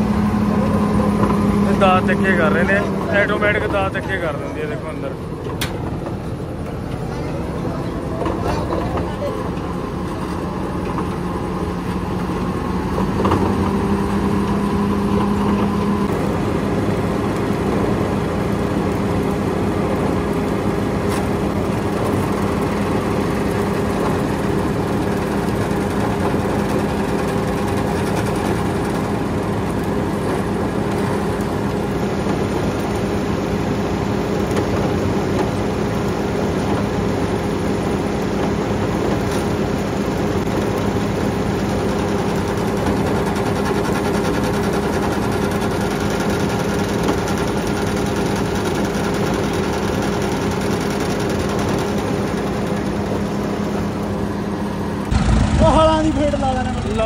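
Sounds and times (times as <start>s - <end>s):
harvester engine humming: 0.0s - 57.0s.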